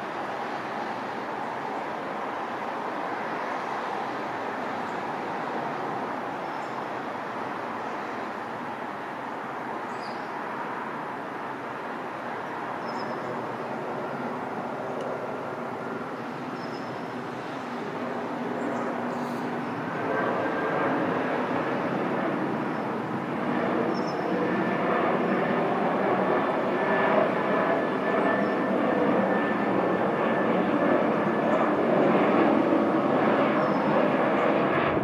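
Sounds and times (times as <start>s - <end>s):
airplane engines running: 0.0s - 35.0s.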